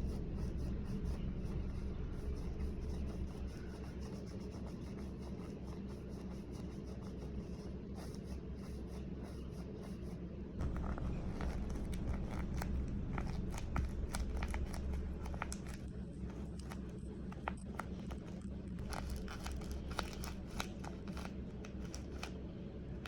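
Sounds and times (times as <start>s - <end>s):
scratchy rubbing: 0.0s - 22.3s
steady low hum: 0.0s - 23.0s.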